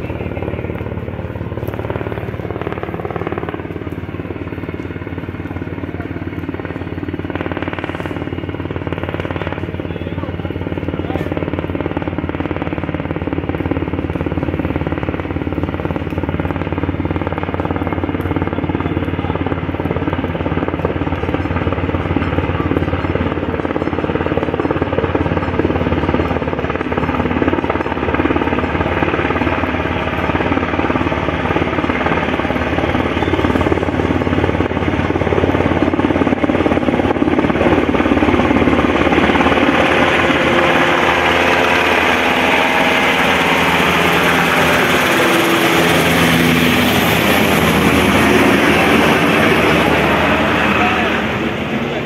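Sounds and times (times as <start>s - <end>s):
helicopter flying overhead: 0.0s - 52.0s.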